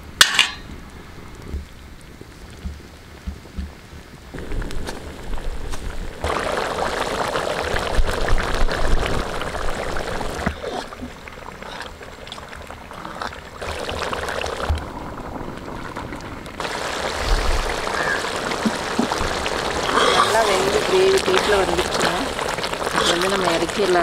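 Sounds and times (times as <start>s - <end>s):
curry bubbling and spluttering: 2.4s - 24.0s.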